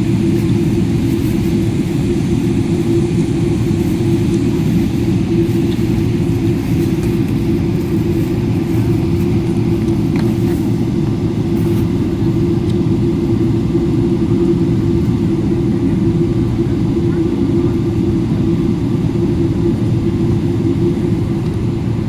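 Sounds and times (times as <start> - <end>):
jet airliner cabin rumble: 0.0 - 22.0.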